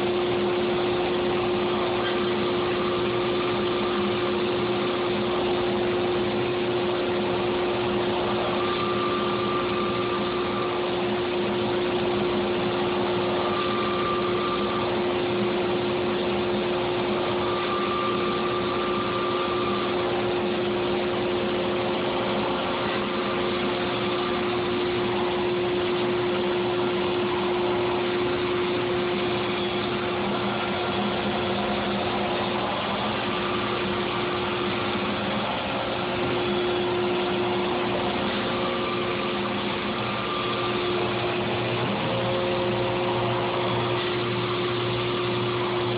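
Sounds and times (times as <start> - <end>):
high machine whine: 0.0 - 45.9
machine hum with held tone: 0.0 - 45.9.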